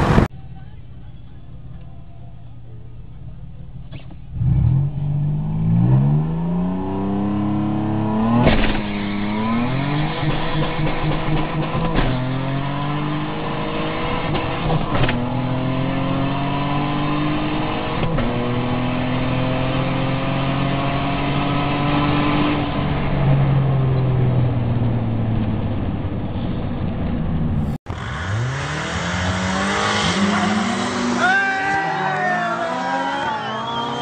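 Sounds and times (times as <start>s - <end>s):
car engine revving: 0.0s - 26.0s, 27.0s - 34.0s
car engine accelerating: 0.0s - 34.0s.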